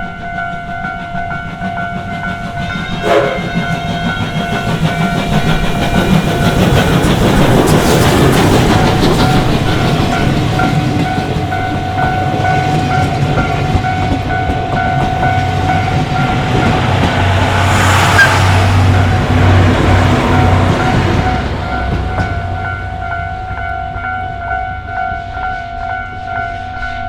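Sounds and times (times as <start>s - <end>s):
crossing warning bell ringing: 0.0s - 27.0s
train clattering over rails: 0.0s - 27.0s.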